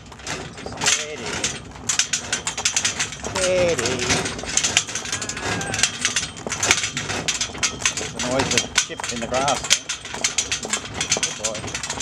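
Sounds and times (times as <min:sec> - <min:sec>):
harness chains rattling and clinking: 0:00.0 - 0:12.0.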